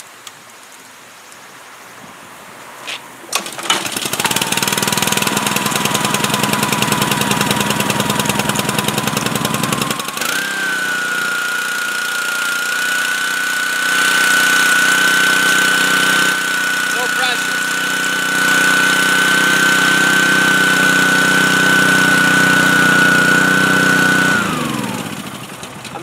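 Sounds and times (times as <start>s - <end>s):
pressure washer engine running: 3.4s - 26.0s
high steady whine: 4.3s - 26.0s.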